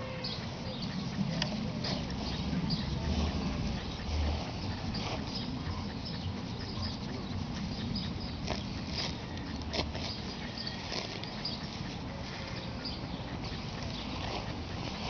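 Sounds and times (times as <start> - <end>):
crunches of grit and roots: 1.1 - 15.0.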